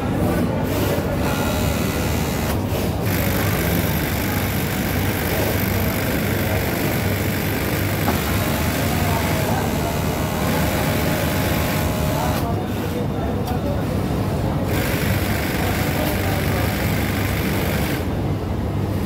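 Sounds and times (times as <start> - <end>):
industrial sewing machines running: 0.0 - 19.0.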